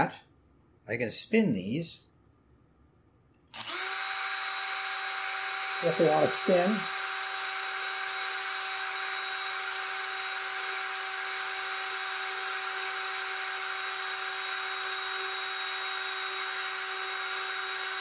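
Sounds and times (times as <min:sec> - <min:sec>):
cordless drill whining: 0:03.5 - 0:18.0.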